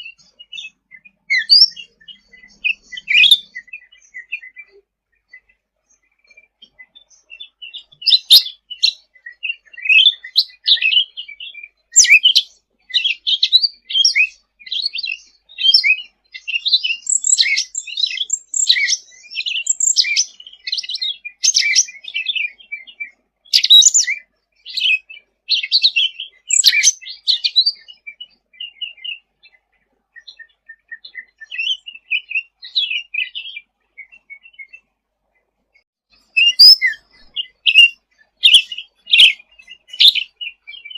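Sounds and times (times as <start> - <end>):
bird chirping and trilling: 0.0 - 35.0, 36.2 - 40.9.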